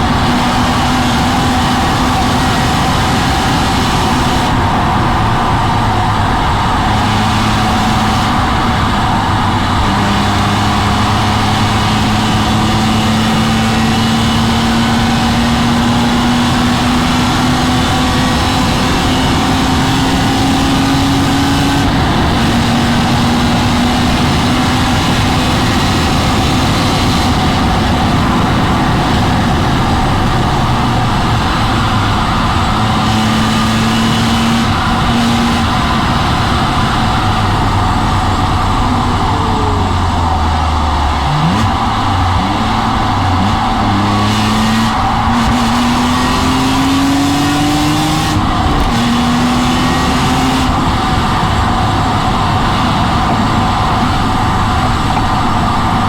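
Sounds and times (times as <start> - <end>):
car engine under hard acceleration: 0.0 - 56.0
road and wind noise: 0.0 - 56.0.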